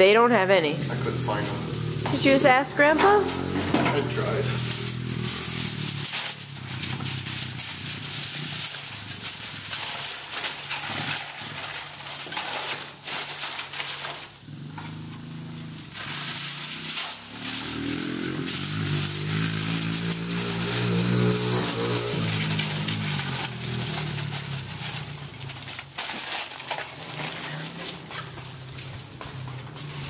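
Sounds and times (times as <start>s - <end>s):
aluminium foil crinkling: 0.0s - 30.0s.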